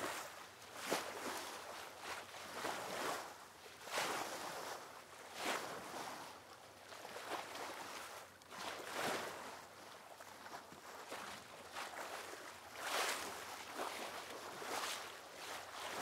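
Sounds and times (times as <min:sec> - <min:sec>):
water rushing along a hull: 0:00.0 - 0:16.0.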